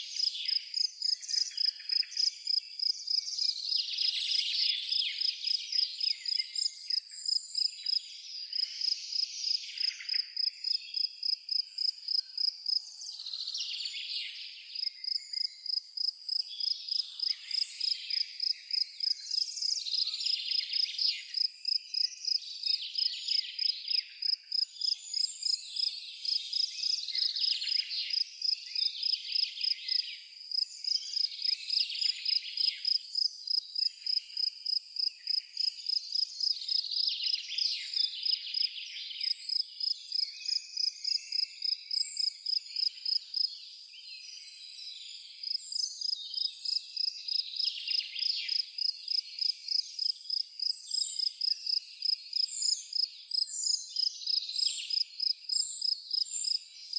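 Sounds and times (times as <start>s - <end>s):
cricket chirping: 0.0s - 13.6s, 14.7s - 56.9s
songbirds singing: 0.0s - 56.9s.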